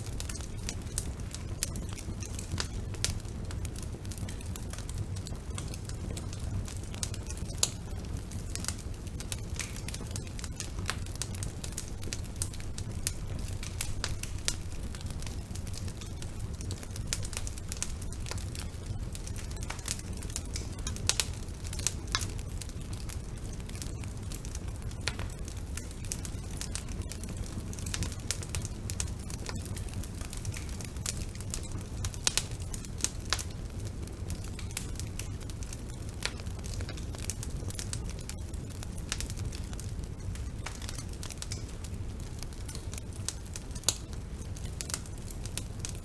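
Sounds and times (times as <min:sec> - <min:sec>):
wood fire crackling in fireplace: 0:00.0 - 0:46.0.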